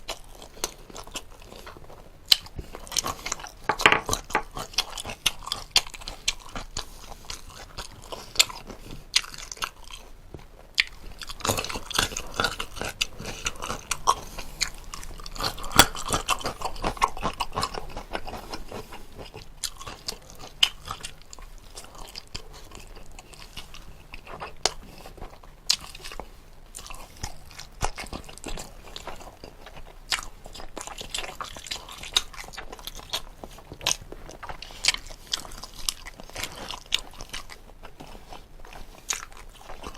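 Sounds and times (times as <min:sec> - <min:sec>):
crunchy bites: 0:00.0 - 0:39.9
person chewing and biting food: 0:00.0 - 0:39.9.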